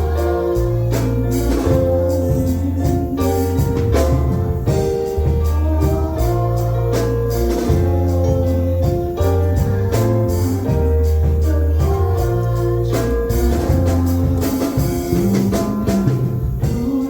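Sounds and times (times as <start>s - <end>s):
deep bass line: 0.0s - 17.0s
held keyboard chords: 0.0s - 17.0s
percussion beat: 0.0s - 17.0s.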